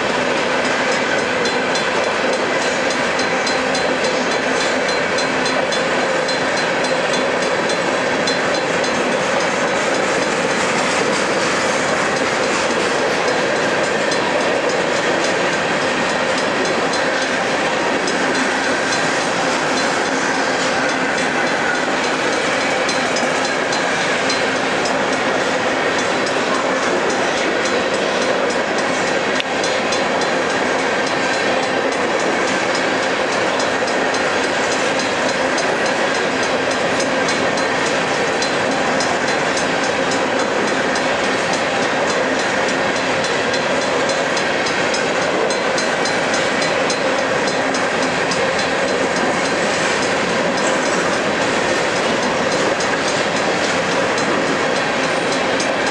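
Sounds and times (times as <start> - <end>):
freight train wheels rumbling on rails: 0.0 - 55.9.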